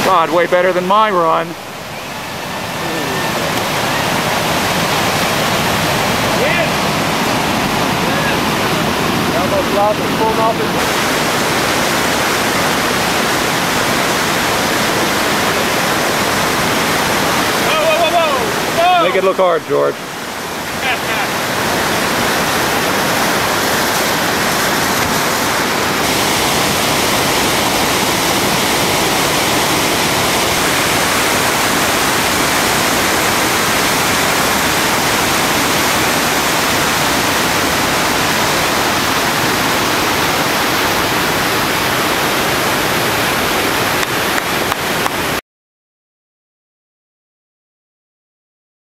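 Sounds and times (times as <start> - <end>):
rapids roaring: 0.0 - 45.4.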